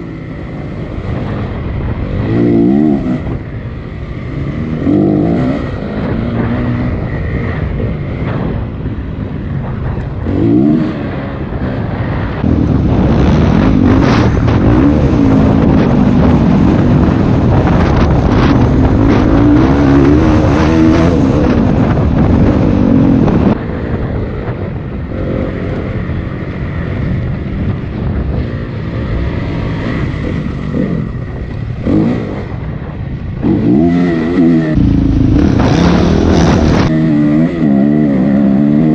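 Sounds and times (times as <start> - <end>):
dirt bike engine revving: 0.0 - 8.9, 9.6 - 23.6, 28.3 - 32.8, 33.4 - 38.9.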